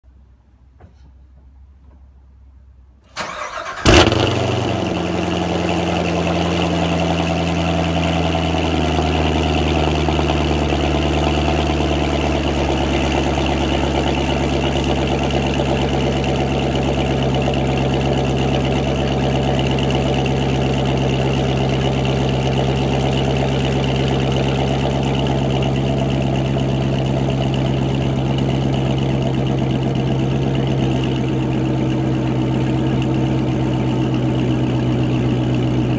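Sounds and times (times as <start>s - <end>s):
car engine starting and idling: 3.0s - 35.9s.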